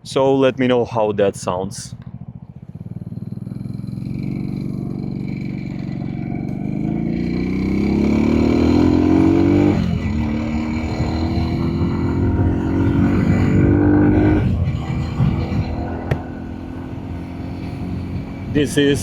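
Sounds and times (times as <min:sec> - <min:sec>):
scooter engine accelerating: 0:01.9 - 0:18.7.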